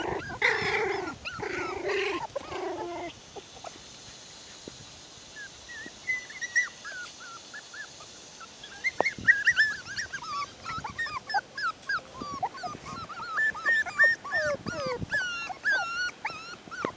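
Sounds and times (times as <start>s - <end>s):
puppies whining and yipping: 0.0s - 3.8s, 5.3s - 16.9s.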